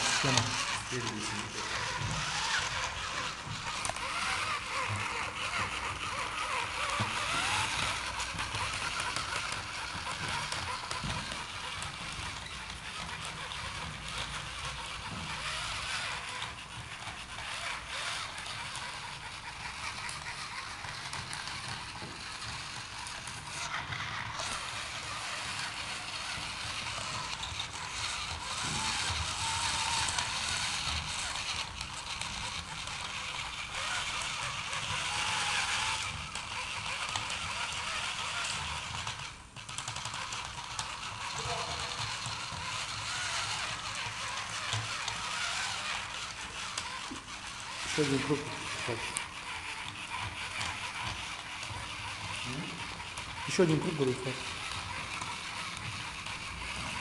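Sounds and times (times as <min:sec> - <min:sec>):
robot motors and tracks whirring: 0:00.0 - 0:57.0.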